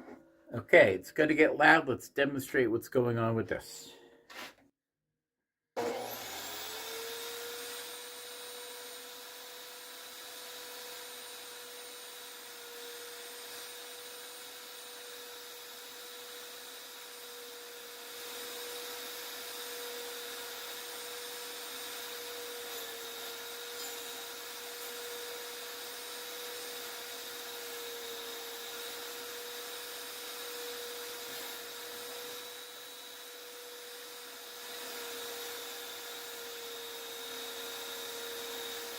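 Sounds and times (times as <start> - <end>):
table saw motor whine: 5.8 - 38.9.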